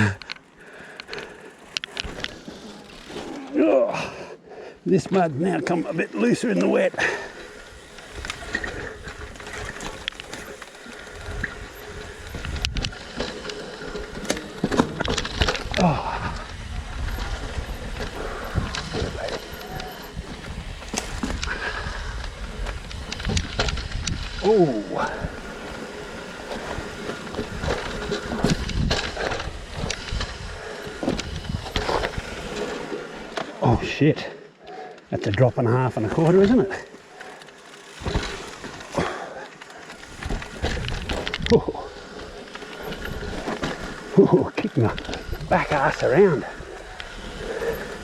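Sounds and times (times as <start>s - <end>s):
bike rattling and clicking: 0.0s - 48.0s
tyres rolling on loose dirt: 0.0s - 48.0s.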